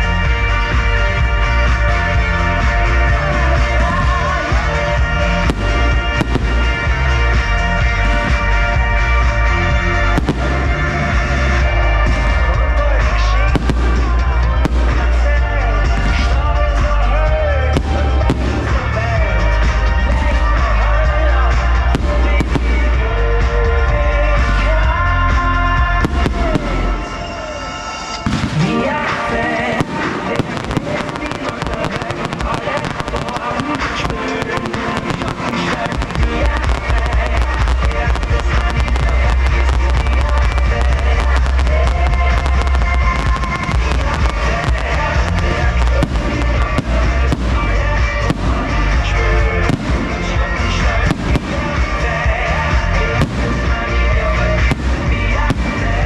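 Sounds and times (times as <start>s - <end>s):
fireworks bangs and crackling: 0.0s - 56.0s
loud pop song: 0.0s - 56.0s.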